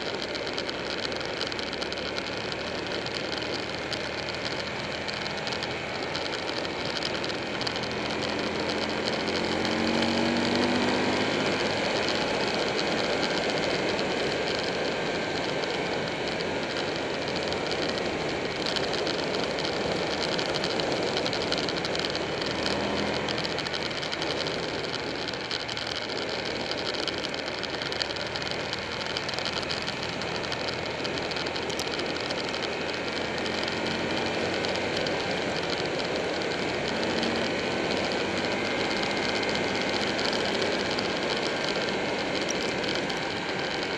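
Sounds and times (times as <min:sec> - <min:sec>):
motorcycle engine accelerating: 0:00.0 - 0:43.9
wind and road noise: 0:00.0 - 0:43.9.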